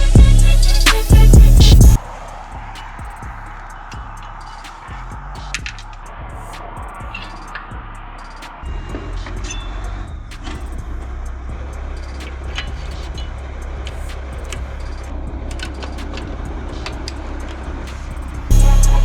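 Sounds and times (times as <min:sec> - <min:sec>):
road noise: 0:00.0 - 0:19.0
truck engine drone: 0:00.0 - 0:19.0.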